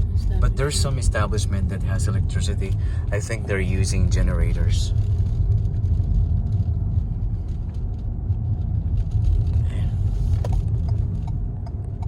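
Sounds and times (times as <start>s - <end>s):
car interior engine and road rumble: 0.0s - 12.0s.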